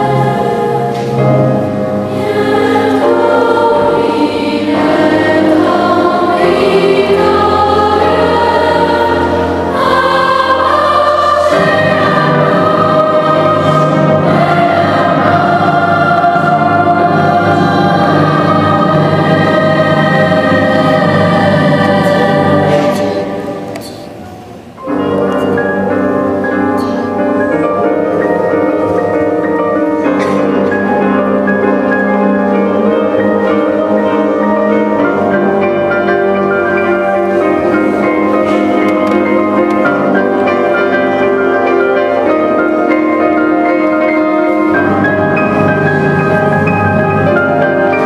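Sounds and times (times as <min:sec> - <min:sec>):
choir singing with orchestra: 0:00.0 - 0:48.0.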